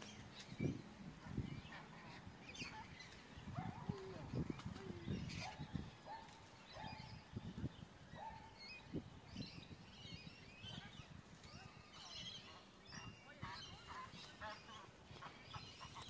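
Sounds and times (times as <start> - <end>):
high twittering bird calls: 0.0 - 16.0.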